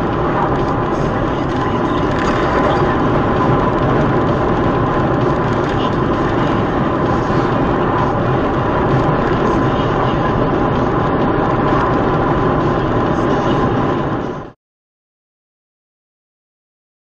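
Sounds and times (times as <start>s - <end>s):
vehicle engine and road noise: 0.0s - 14.6s.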